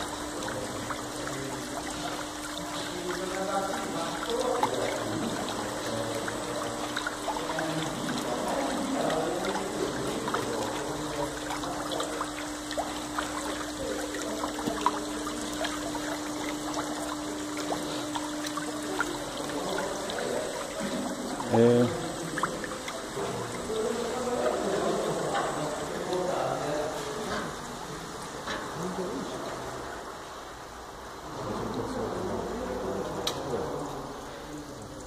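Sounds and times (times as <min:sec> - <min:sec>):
water rushing and splashing: 0:00.0 - 0:30.2
steady hum: 0:00.0 - 0:35.0.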